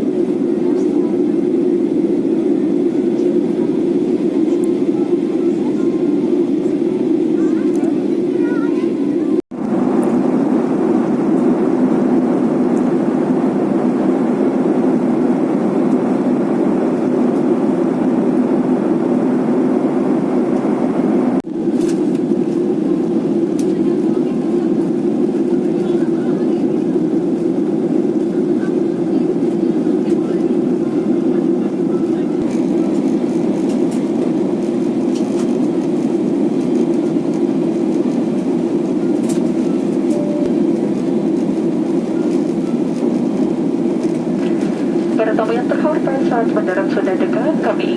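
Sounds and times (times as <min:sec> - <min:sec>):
airliner cabin noise: 0:00.0 - 0:47.9.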